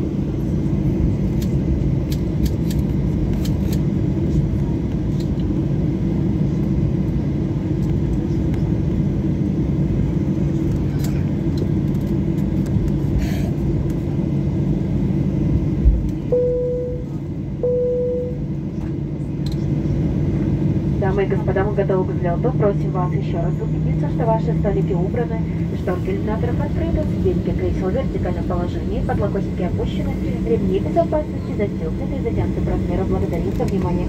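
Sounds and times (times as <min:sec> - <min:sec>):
airliner engines rumbling: 0:00.0 - 0:34.0.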